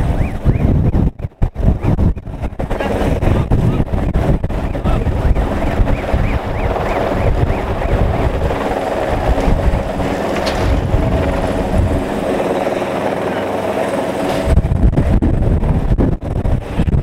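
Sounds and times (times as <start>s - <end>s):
helicopter rotor hovering: 0.0s - 17.0s
wind buffeting microphone: 0.0s - 17.0s.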